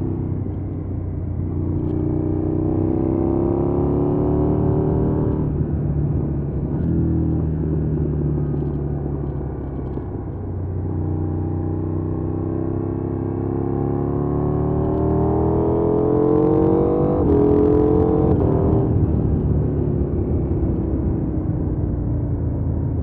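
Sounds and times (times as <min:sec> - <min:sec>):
motorcycle engine accelerating: 0:00.0 - 0:23.0
wind and road noise: 0:00.0 - 0:23.0.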